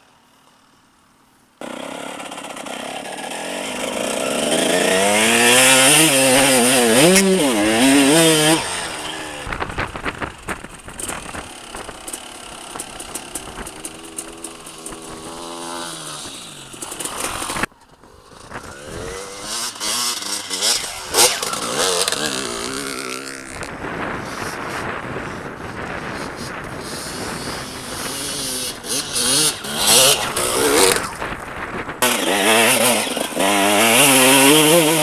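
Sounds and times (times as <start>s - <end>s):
motorcycle engine revving: 1.1s - 35.0s.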